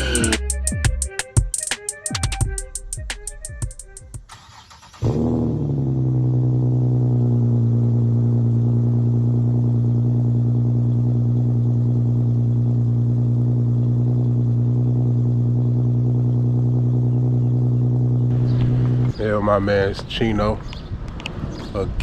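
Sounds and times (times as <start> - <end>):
car engine starting and idling: 4.2 - 22.0.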